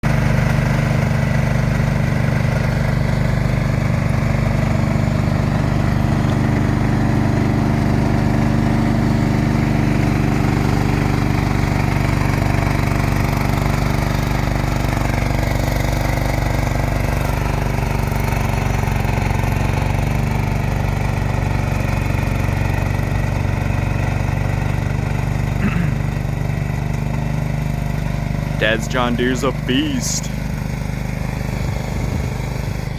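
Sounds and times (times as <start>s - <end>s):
tractor engine running: 0.1s - 32.9s.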